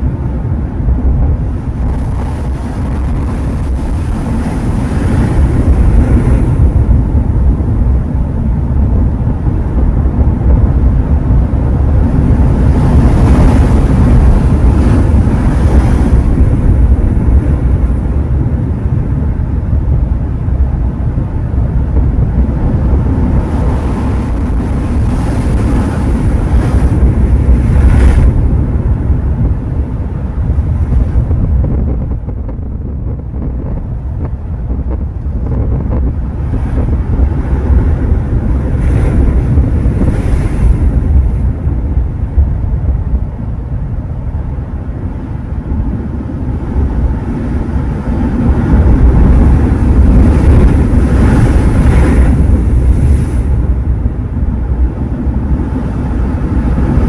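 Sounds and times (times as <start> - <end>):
sea waves washing ashore: 0.0 - 57.0
wind buffeting microphone: 0.0 - 57.0.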